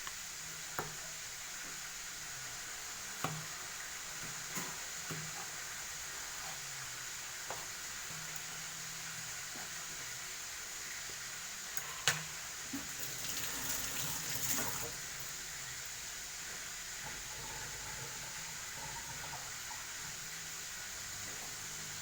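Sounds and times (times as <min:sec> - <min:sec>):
background hiss: 0:00.0 - 0:22.0
water running: 0:00.5 - 0:22.0.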